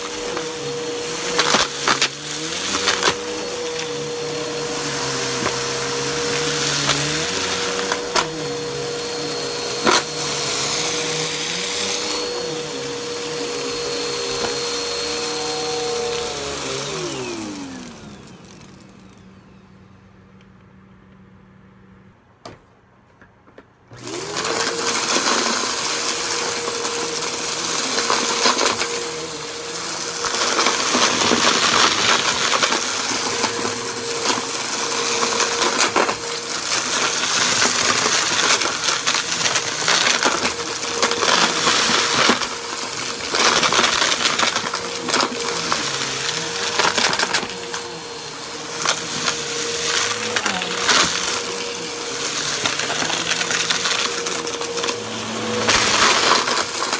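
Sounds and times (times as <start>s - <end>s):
vacuum clattering sucking up beads: 0.0s - 19.2s, 24.0s - 56.9s
vacuum cleaner motor hum: 0.0s - 21.1s, 23.9s - 56.9s.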